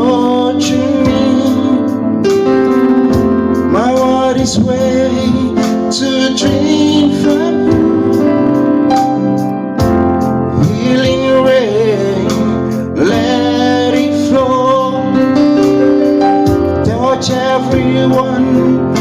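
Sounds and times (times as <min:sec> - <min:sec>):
person singing gospel song: 0:00.0 - 0:09.4, 0:10.3 - 0:19.0
keyboard accompaniment: 0:00.0 - 0:19.0.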